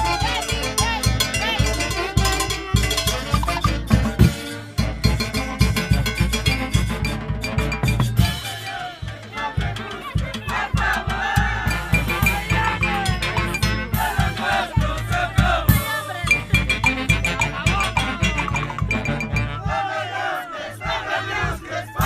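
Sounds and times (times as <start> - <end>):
salsa band playing: 0.0 - 19.9.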